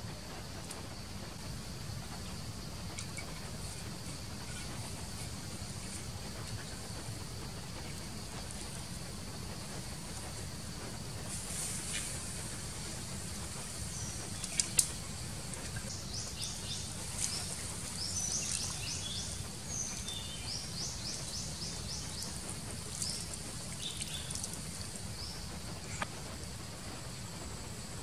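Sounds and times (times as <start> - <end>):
steady low background noise: 0.0 - 28.0.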